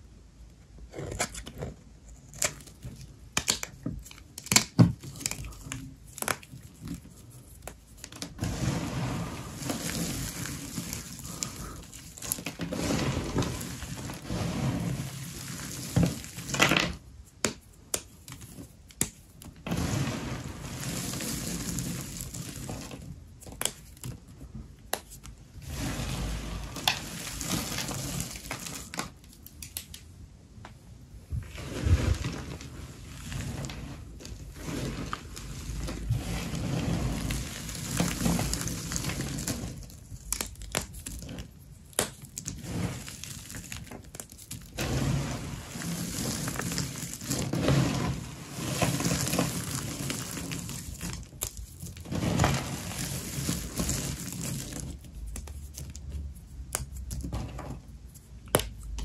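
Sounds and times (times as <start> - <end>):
dry soap crunching: 0.9 - 30.0, 31.5 - 59.0.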